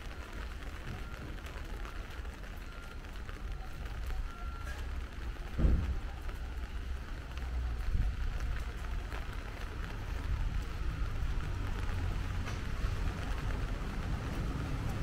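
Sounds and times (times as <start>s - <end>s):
low rumble of traffic: 0.0s - 15.0s
rain falling: 0.0s - 15.0s.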